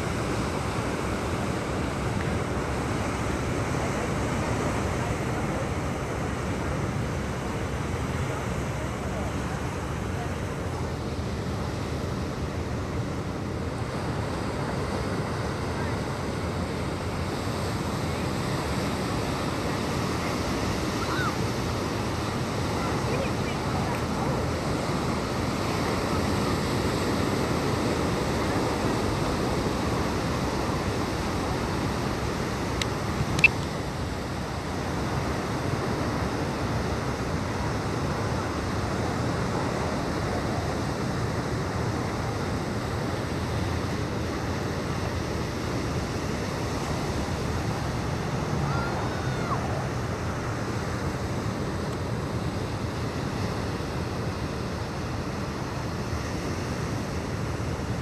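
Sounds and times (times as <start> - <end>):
sea water rushing: 0.0 - 58.0
wind: 0.0 - 58.0.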